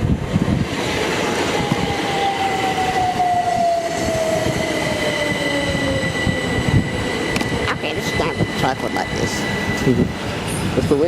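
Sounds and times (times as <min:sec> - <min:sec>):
low train rumble: 0:00.0 - 0:11.0
train whine falling in pitch: 0:00.8 - 0:11.0
steady high tone: 0:01.2 - 0:11.0.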